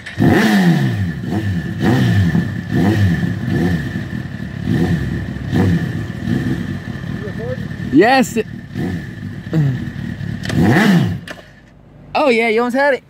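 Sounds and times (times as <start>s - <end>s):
motorcycle engine revving: 0.0s - 11.7s.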